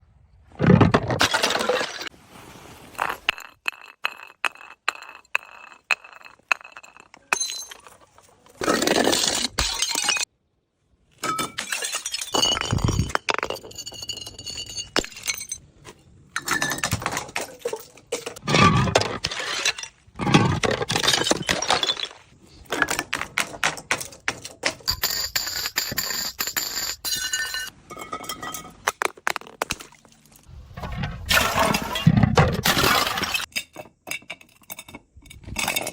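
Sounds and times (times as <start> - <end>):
glass bottles shattering: 1.1 - 2.1, 3.0 - 10.3, 11.2 - 15.6, 16.4 - 23.0, 23.8 - 35.0
glass bottles clinking: 3.0 - 10.3, 11.2 - 15.6, 16.4 - 29.6, 30.9 - 35.0.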